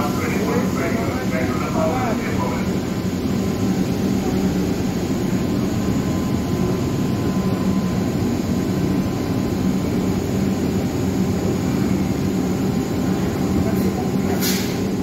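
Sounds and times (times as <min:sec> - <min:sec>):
electric train low hum: 0:00.0 - 0:15.0
faint steady whine: 0:00.0 - 0:15.0.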